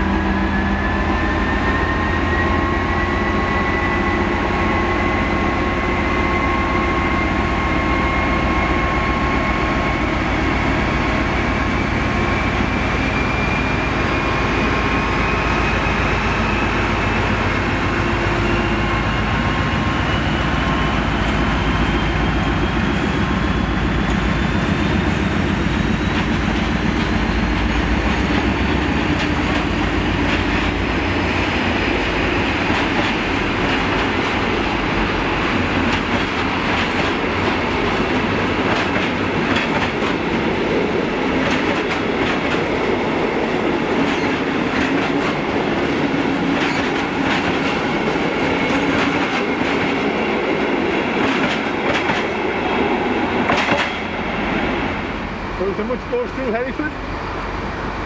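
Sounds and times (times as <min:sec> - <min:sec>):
diesel locomotive engine: 0:00.0 - 0:58.0.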